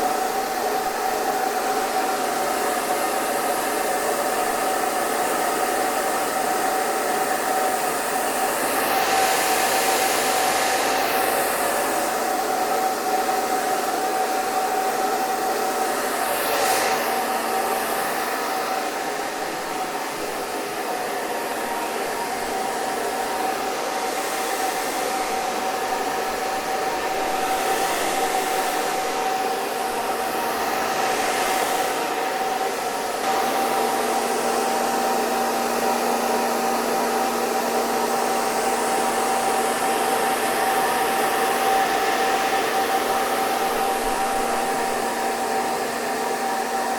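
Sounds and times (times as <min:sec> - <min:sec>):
hair dryer blowing: 0:00.0 - 0:46.9.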